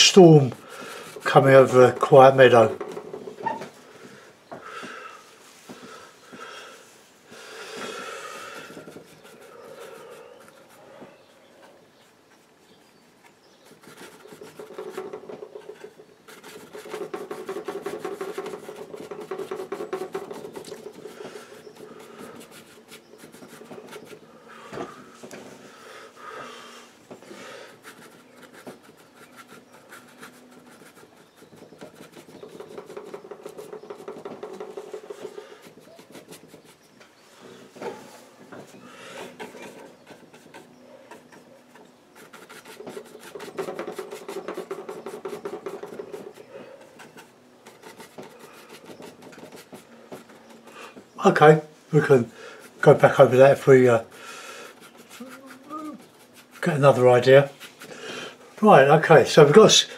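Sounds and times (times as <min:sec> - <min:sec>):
paintbrush scrubbing on a board: 0:00.0 - 0:04.2, 0:05.2 - 0:59.9.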